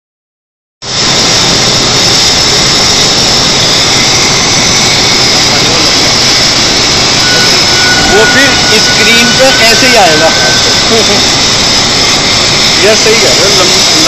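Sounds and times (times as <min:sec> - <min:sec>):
industrial equipment rushing hiss: 0:00.8 - 0:14.0.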